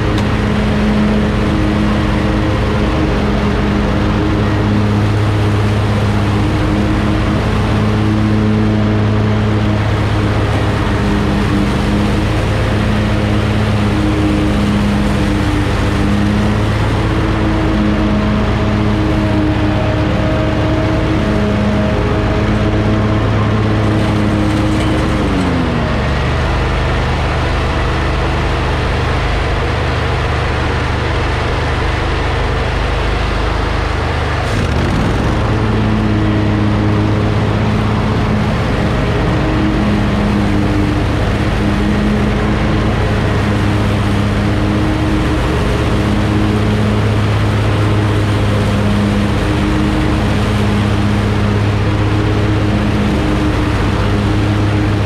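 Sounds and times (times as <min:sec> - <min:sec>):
lawn mower engine and blades: 0:00.0 - 0:55.0.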